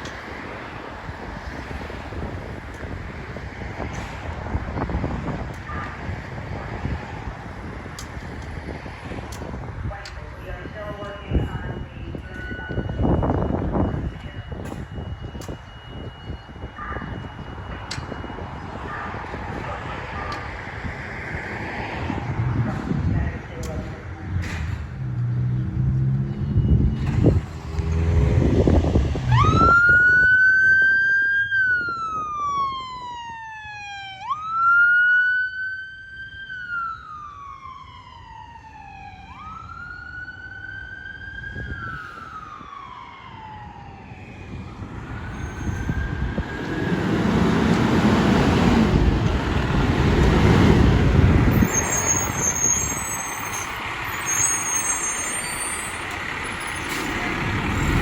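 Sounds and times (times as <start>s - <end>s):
emergency siren wailing: 0.0s - 24.4s, 25.2s - 58.0s
vehicle engine and road noise: 0.0s - 58.0s.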